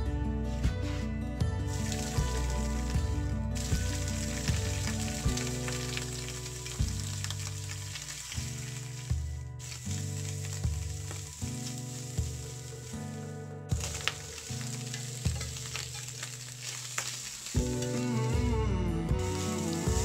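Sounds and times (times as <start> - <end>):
background music: 0.0 - 20.0
stirring in a wok: 1.7 - 17.8
food sizzling in a wok: 1.7 - 18.4, 19.2 - 20.0.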